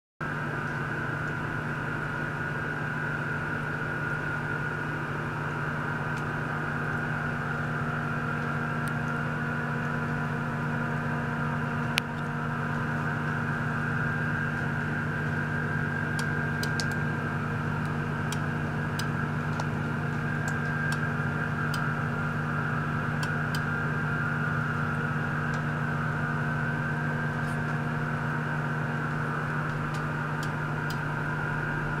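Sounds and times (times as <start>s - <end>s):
water pump humming: 0.2s - 32.0s.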